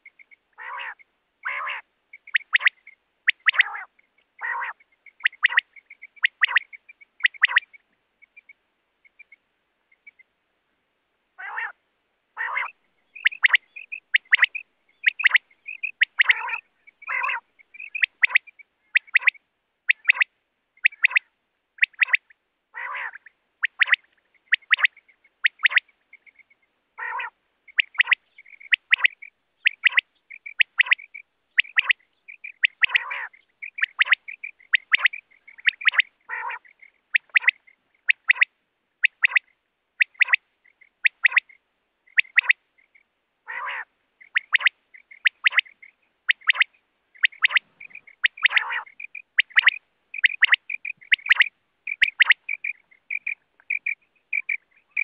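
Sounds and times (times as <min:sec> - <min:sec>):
quail calling: 0:00.0 - 0:09.4, 0:11.4 - 0:11.8, 0:12.4 - 0:55.0.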